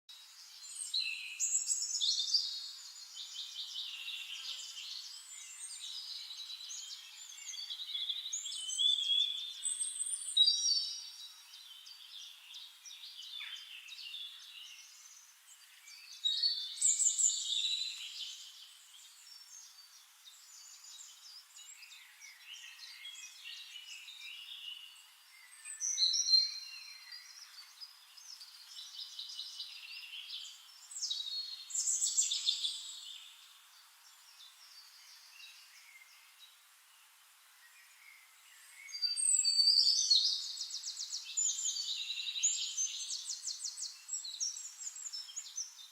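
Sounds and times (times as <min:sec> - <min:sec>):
birds singing: 0:00.1 - 0:45.9.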